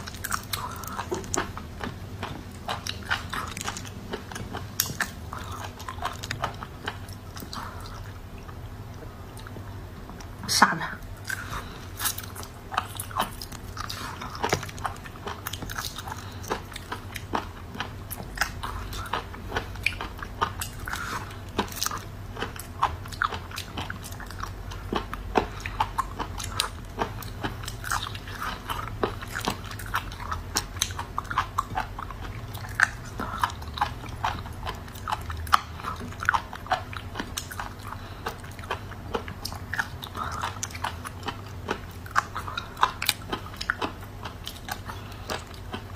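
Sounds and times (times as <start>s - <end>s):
sucking and chewing: 0.0s - 10.4s, 11.1s - 45.9s
steady low hum: 0.0s - 45.9s.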